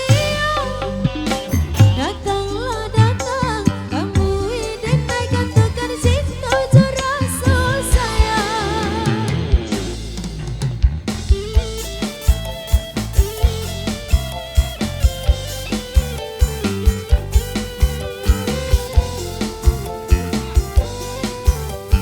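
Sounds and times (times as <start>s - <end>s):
drums steady beat: 0.0s - 22.0s
guitar: 0.0s - 22.0s
street band playing: 0.0s - 22.0s
wavering lead melody: 0.0s - 22.0s.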